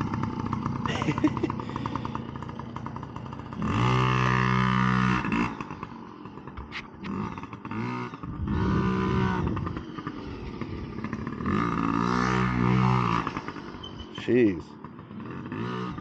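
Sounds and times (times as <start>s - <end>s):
dirt bike engines: 0.0s - 16.0s.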